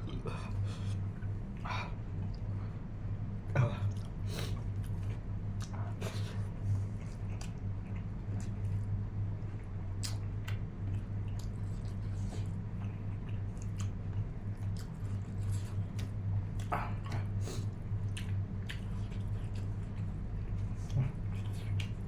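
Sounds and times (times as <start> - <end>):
person chewing food: 3.8 - 22.0.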